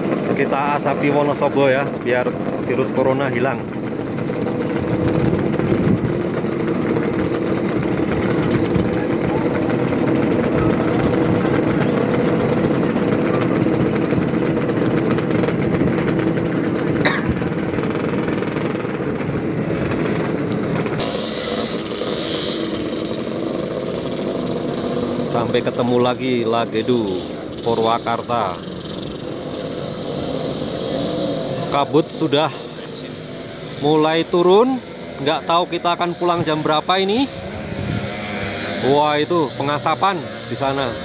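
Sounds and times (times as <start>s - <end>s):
two-stroke motorcycle engines running: 0.0s - 41.0s.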